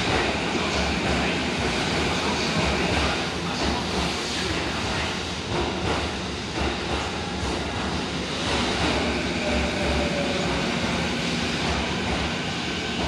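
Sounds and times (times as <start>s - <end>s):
faint train whine: 0.0s - 13.0s
train motors and wheels rumbling: 0.0s - 13.0s.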